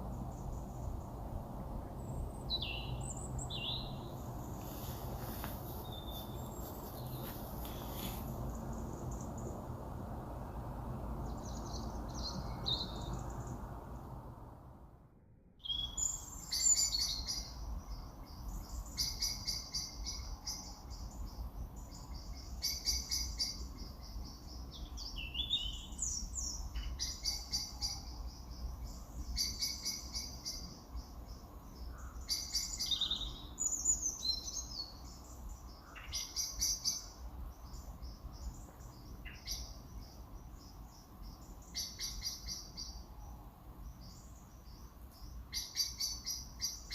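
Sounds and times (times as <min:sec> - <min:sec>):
small birds chirping: 0:00.0 - 0:14.4, 0:15.6 - 0:46.9
low background noise: 0:00.0 - 0:46.9.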